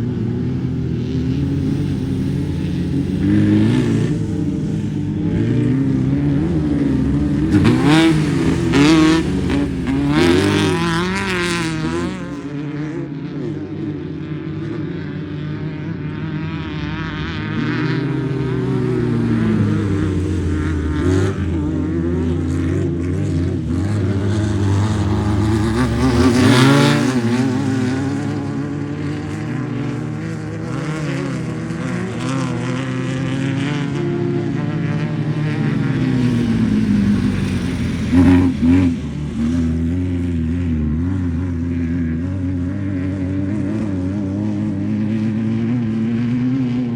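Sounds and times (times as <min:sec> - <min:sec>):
racing engines revving: 0:00.0 - 0:46.9.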